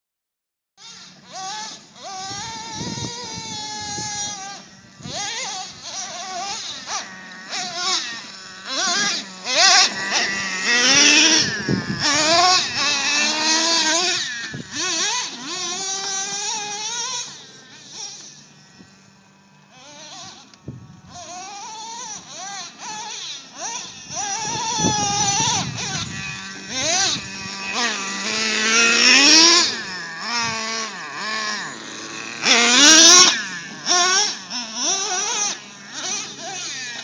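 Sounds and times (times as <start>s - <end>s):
toy car motor whining: 0.8s - 37.0s.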